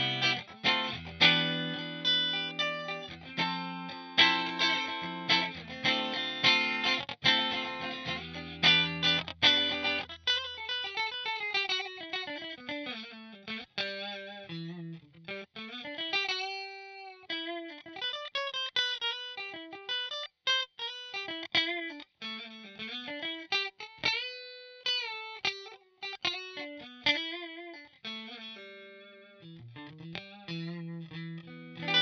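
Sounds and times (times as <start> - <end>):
electric guitar lead melody: 0.0 - 32.0.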